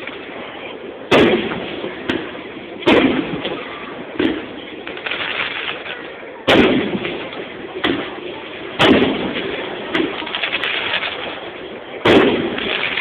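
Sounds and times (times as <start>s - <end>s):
firework shells booming: 0.0s - 13.0s.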